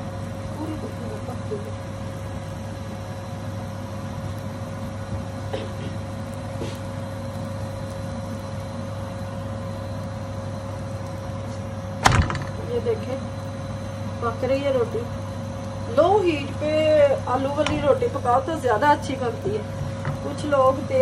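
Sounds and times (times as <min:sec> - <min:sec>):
mechanical hum with whine: 0:00.0 - 0:21.0.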